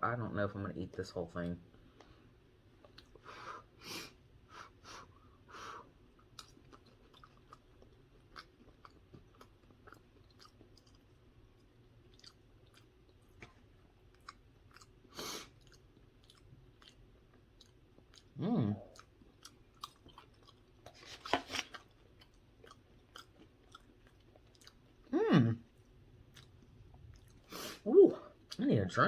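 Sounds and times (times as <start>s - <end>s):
person chewing food: 2.8s - 3.3s, 5.8s - 28.6s.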